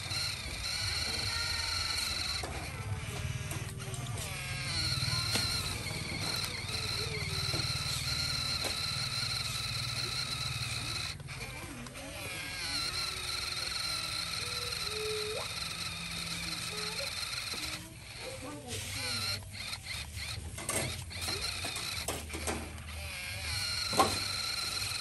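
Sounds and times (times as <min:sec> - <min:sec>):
gliding squeaks: 0:00.0 - 0:25.0
toy electric motor whining: 0:00.0 - 0:25.0.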